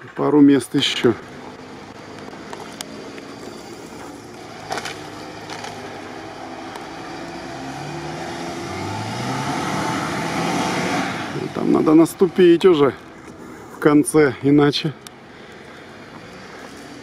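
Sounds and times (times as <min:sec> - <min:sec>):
car engine running at low speed: 0:00.0 - 0:17.0.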